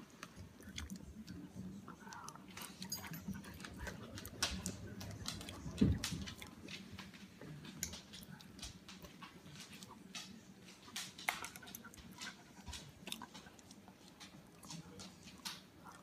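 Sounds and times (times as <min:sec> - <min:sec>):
dog licking and lip smacking: 0:00.2 - 0:16.0.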